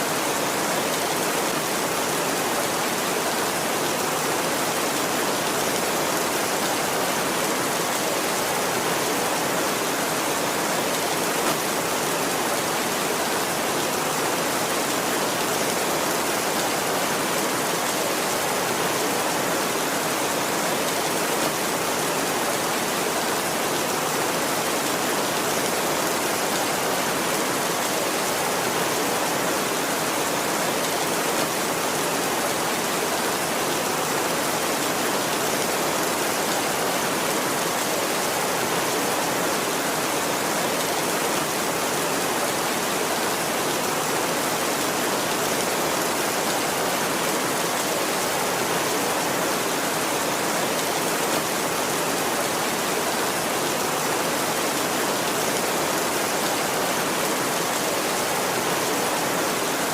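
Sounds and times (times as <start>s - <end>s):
heavy rainfall: 0.0s - 59.9s.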